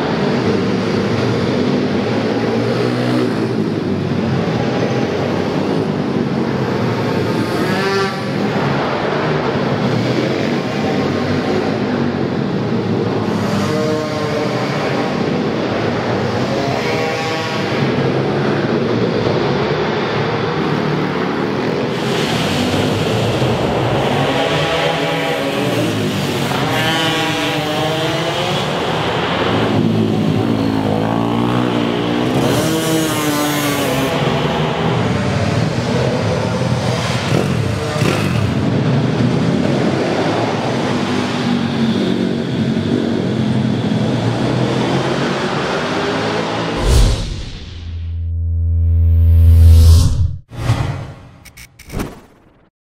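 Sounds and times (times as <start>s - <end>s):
small motorbike engines revving: 0.1s - 21.4s, 22.0s - 46.7s.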